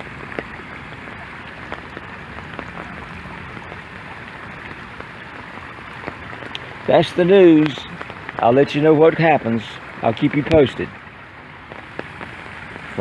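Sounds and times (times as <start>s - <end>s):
faint ticks: 0.0s - 13.0s
water running over stones: 0.0s - 13.0s.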